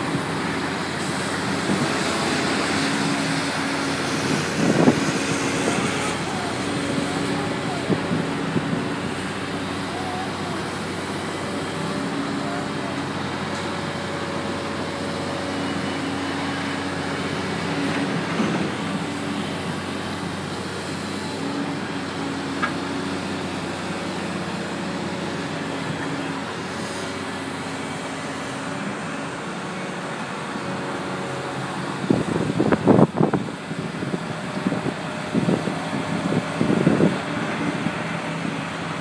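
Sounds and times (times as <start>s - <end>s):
digger diesel engine running: 0.0s - 39.0s.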